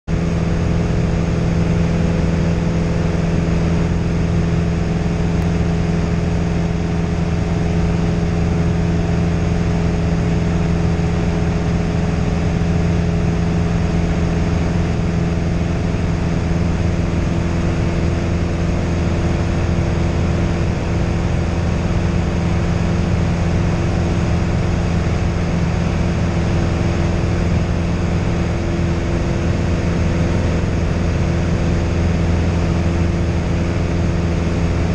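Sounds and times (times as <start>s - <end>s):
light aircraft engine drone: 0.1s - 34.9s.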